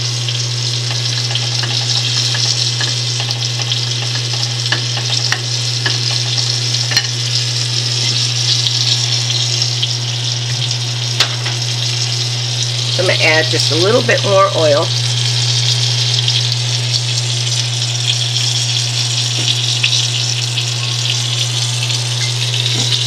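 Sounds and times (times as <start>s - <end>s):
oil sizzling in skillet: 0.0s - 23.0s.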